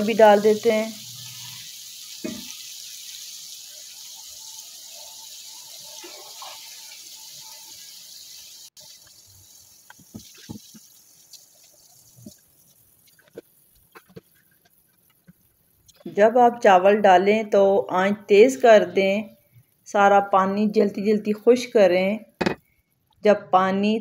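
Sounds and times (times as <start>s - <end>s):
water boiling in a pot: 0.0s - 22.8s.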